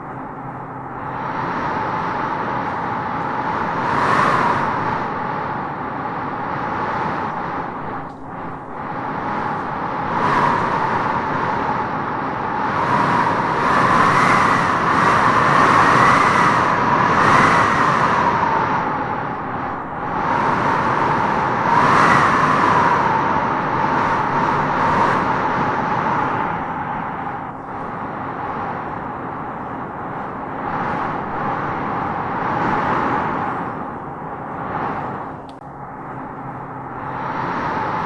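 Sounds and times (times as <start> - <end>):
whistling wind: 0.0 - 38.0
wind blowing in gusts: 0.0 - 38.0.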